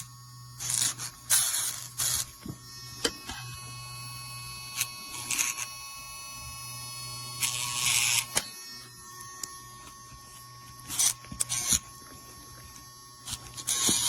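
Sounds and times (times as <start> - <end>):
nail grinder motor whine: 0.0 - 14.0.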